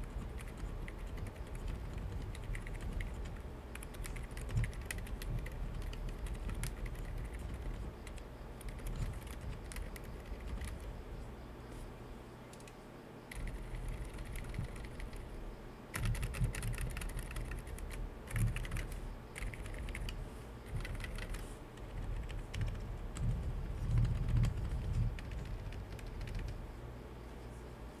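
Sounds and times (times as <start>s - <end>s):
mechanical keyboard typing: 0.0s - 10.9s, 13.3s - 15.2s, 15.9s - 26.6s.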